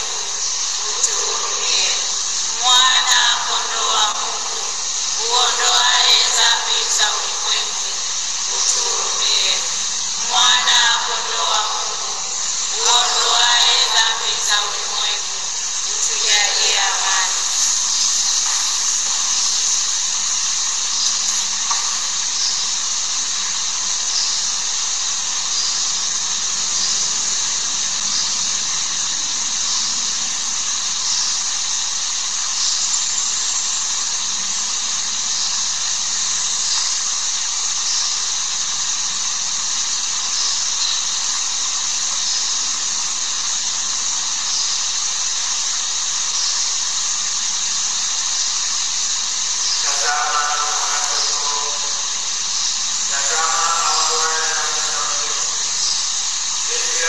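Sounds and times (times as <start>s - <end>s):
steady high-pitched hiss: 0.0s - 57.0s.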